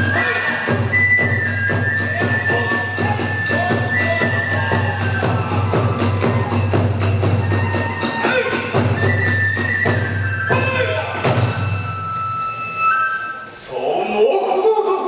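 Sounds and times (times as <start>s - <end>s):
bamboo flute long notes: 0.0s - 14.6s
drum strokes: 0.2s - 13.3s.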